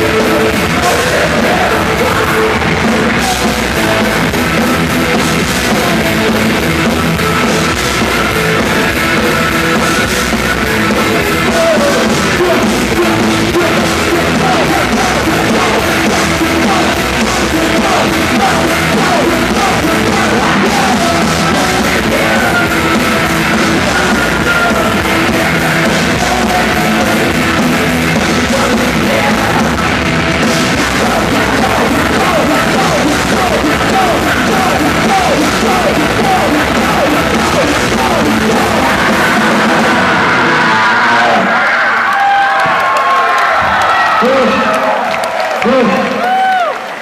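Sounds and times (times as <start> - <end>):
drum kit: 0.0 - 41.6
live rock band playing: 0.0 - 42.0
yelled sung vocals: 0.0 - 47.0.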